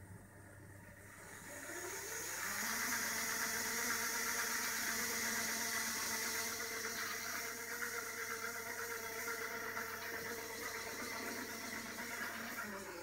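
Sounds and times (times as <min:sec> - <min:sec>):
model railway turntable motor whining: 0:01.1 - 0:13.0.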